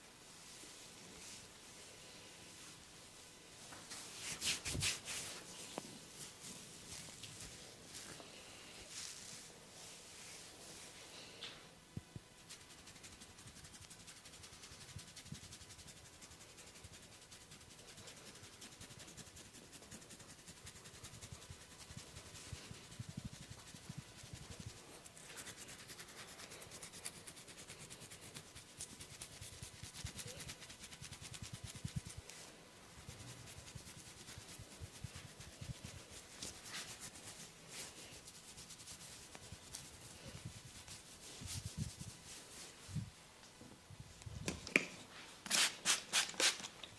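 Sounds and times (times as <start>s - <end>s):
hands scratching hair and scalp: 3.8s - 11.0s, 12.4s - 43.1s, 45.5s - 46.8s.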